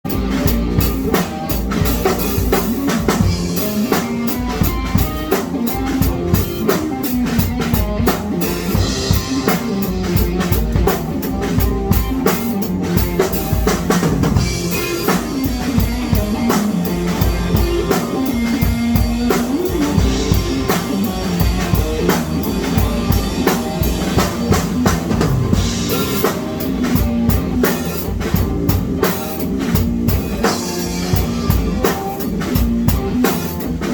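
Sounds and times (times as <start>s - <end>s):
drum kit beat: 0.0s - 33.9s
bass line: 0.1s - 33.9s.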